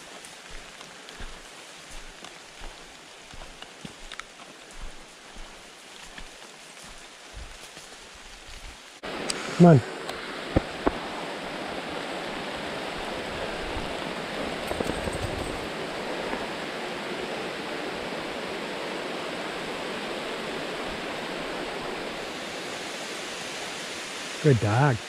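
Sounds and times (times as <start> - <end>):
rain hissing on leaves: 0.0 - 25.0.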